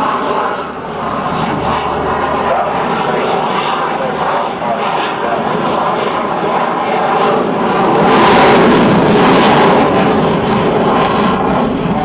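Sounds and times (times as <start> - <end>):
airplane engine overhead: 0.0 - 12.0.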